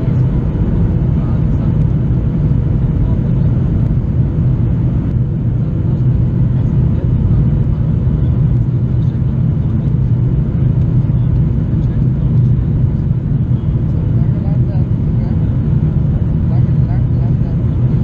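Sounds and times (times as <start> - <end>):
airplane cabin roar: 0.0 - 18.0.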